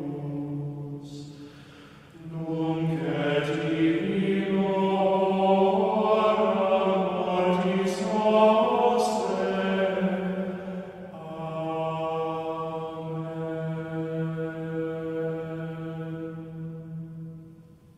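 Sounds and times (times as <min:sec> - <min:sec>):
slow sung chant: 0:00.0 - 0:17.9.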